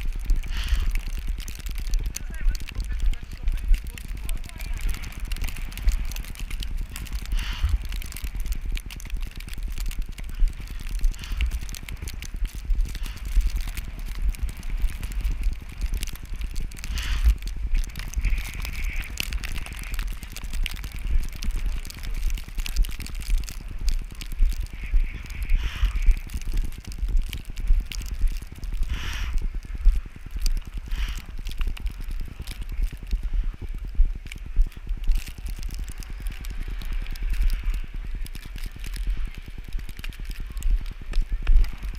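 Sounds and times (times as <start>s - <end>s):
crackling clicks: 0.0s - 41.9s
wind buffeting microphone: 0.0s - 41.9s.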